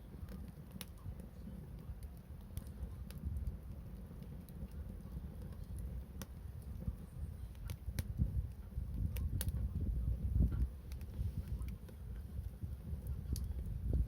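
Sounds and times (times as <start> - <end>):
sharp fire pops: 0.0 - 14.0
steady low rumble: 0.0 - 14.0
wood fire crackling: 0.0 - 14.0.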